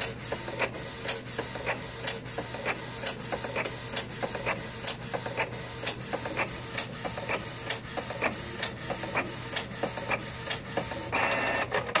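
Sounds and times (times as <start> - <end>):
sharp printer clicks: 0.0 - 12.0.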